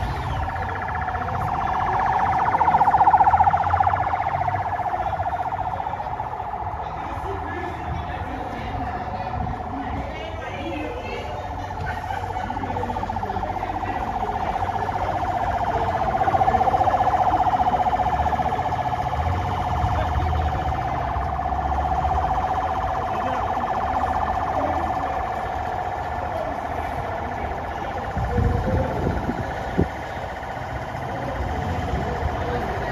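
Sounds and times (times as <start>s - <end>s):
rumble of vehicles: 0.0s - 32.9s
warbling siren: 0.0s - 32.9s.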